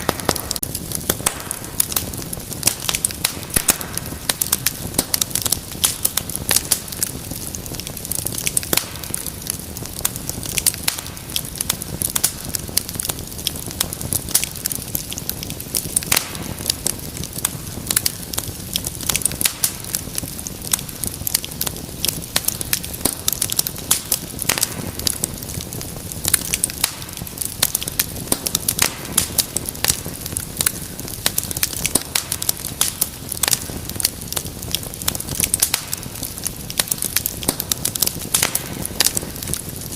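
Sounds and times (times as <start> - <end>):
rumble of burning flames: 0.0 - 39.9
wood fire crackling: 0.0 - 39.9.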